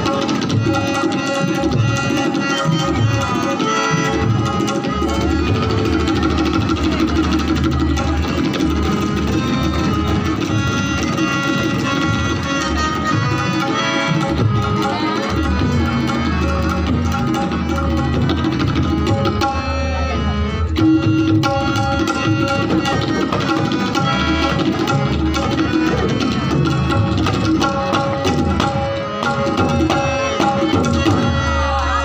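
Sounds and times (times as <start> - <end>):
harmonium melody: 0.0 - 32.0
rapid tabla strokes: 0.0 - 32.0.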